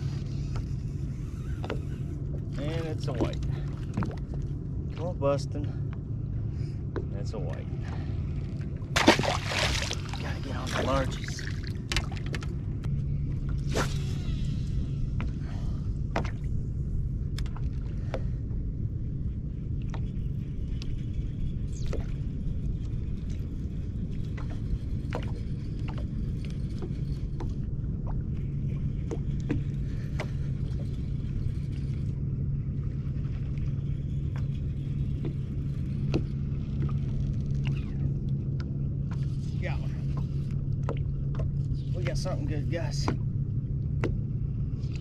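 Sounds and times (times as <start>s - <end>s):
electric trolling motor hum: 0.0s - 45.0s
low rumble: 0.0s - 45.0s.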